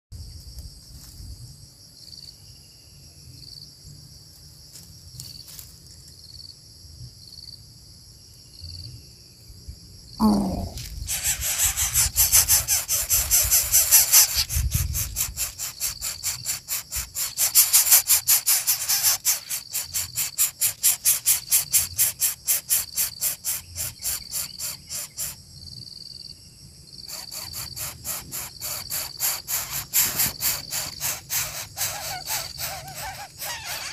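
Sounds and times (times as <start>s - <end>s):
insect high-pitched whine: 0.2s - 33.9s
insect rapid pulsing chirp: 0.2s - 33.9s.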